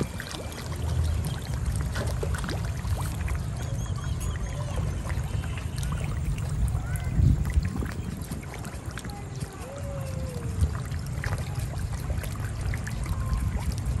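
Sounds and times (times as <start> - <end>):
fish splashing at water surface: 0.0 - 14.0
steady low rumble: 0.0 - 14.0.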